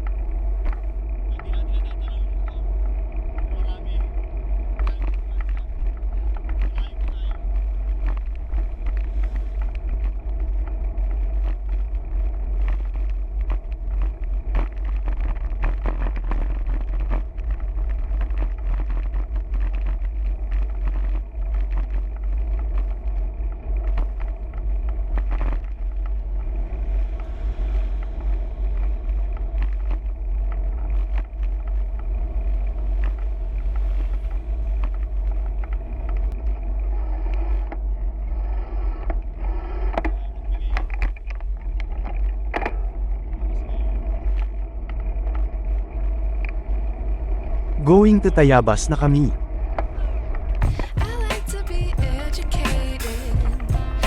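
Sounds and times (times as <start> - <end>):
small bicycle clicks: 0.0 - 50.7
road and traffic noise: 0.0 - 54.0
wind rumbling on microphone: 0.0 - 54.0.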